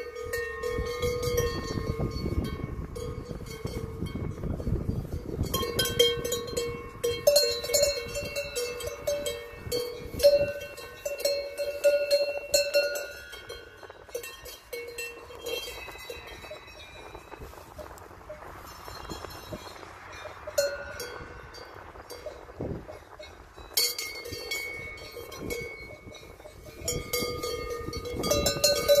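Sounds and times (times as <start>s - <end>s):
cowbells clanking: 0.0s - 29.0s.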